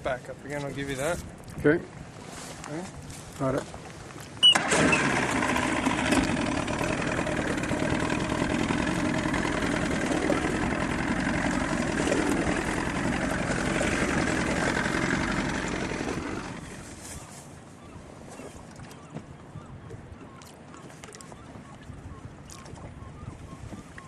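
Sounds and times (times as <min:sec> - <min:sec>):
boat engine running: 0:04.3 - 0:24.0.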